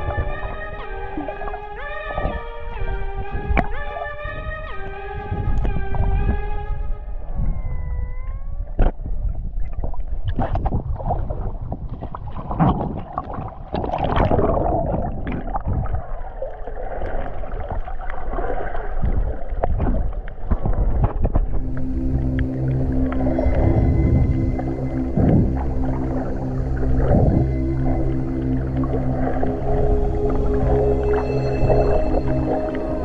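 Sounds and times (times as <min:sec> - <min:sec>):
water gurgling and bubbling: 0:00.0 - 0:03.8, 0:08.9 - 0:33.0
muffled underwater rumble: 0:00.0 - 0:33.0.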